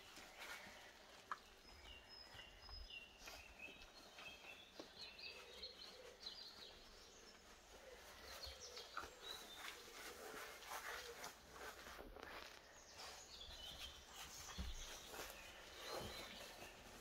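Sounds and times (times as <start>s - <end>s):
faint birds chirping: 0.0s - 17.0s
soft clicks and rustles: 0.0s - 17.0s.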